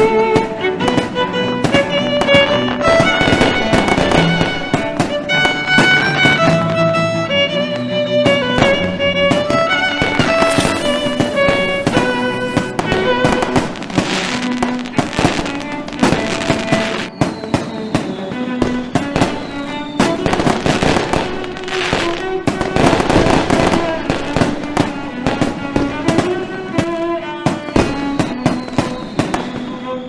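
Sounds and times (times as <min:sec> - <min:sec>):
fireworks bangs and crackles: 0:00.0 - 0:06.8, 0:08.2 - 0:30.0
music playing: 0:00.0 - 0:29.5.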